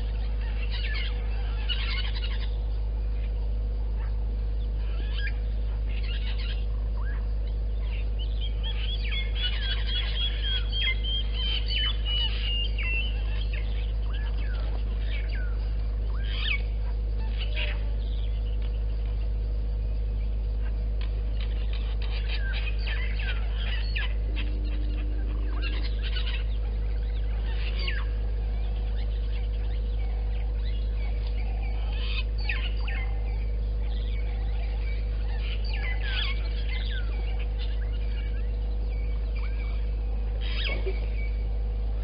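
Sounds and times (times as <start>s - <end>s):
birds chirping and whistling: 0.0s - 42.0s
steady low hum: 0.0s - 42.0s.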